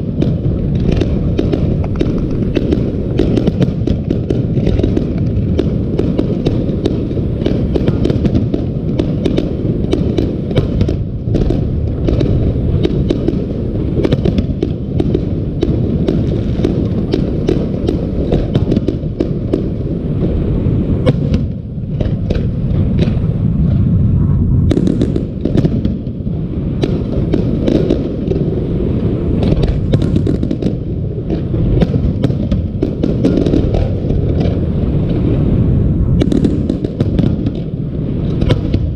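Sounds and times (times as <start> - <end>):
fireworks bursts rumbling: 0.0 - 38.9
sharp fireworks pops: 0.0 - 38.9.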